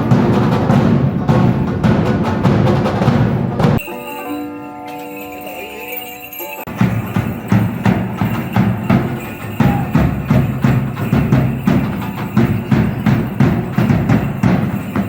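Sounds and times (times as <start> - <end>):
drum beaten in steady rhythm: 0.0 - 4.5, 5.1 - 15.0
rattling or jingling: 0.0 - 15.0.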